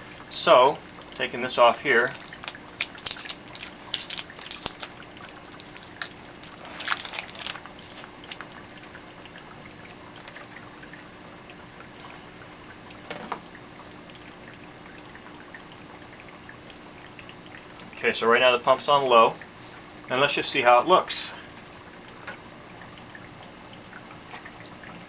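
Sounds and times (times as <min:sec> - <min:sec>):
faint steady hum: 0:00.0 - 0:25.0
water trickling and splashing: 0:00.0 - 0:25.0.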